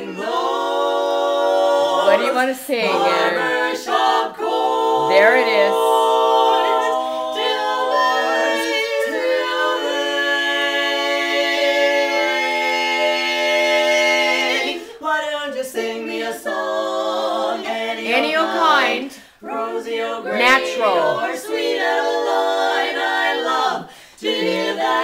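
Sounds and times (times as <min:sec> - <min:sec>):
women singing in close harmony: 0:00.0 - 0:25.0.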